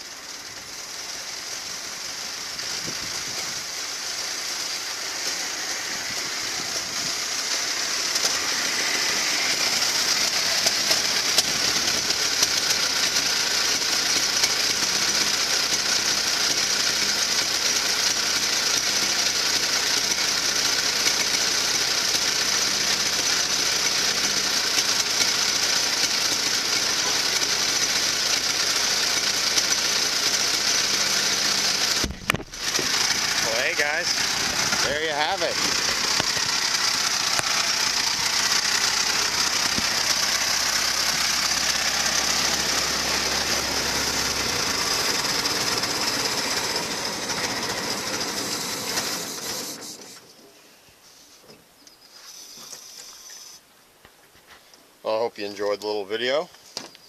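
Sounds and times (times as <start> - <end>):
old car engine running: 0.0 - 50.3.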